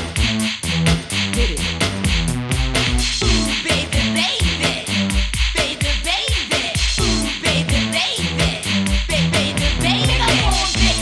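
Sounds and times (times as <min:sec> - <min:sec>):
crisp hi-hats: 0:00.0 - 0:11.0
electronic dance music: 0:00.0 - 0:11.0
kick drum: 0:00.0 - 0:11.0.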